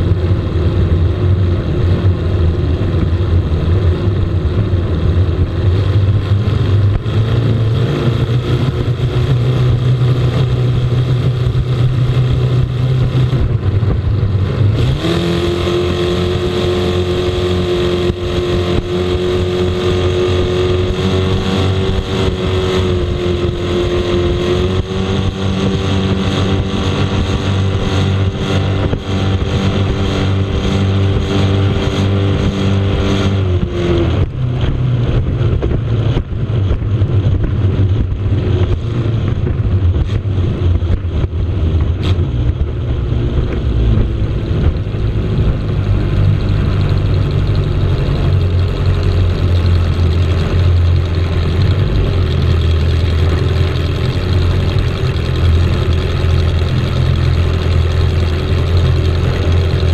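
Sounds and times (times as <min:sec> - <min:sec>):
powerboat engine running hard: 0:00.0 - 0:59.9.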